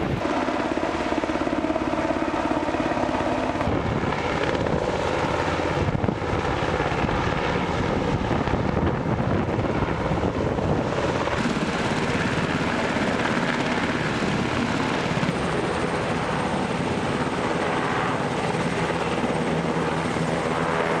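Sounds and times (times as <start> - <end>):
helicopter rotor chop: 0.0 - 21.0.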